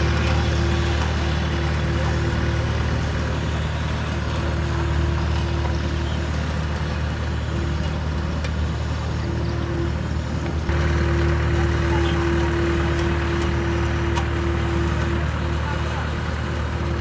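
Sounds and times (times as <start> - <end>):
constant whine: 0.0 - 17.0
road roller engine hum: 0.0 - 17.0.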